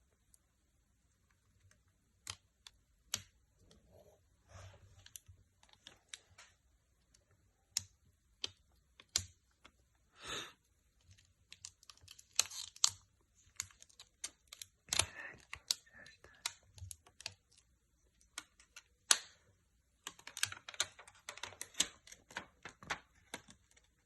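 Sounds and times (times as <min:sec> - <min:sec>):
small clicks and taps: 0:01.1 - 0:03.8, 0:05.0 - 0:09.8, 0:10.9 - 0:24.0.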